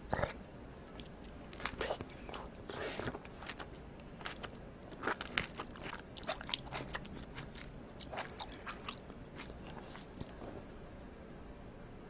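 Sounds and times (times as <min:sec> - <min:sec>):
person chewing food: 0:00.1 - 0:10.6.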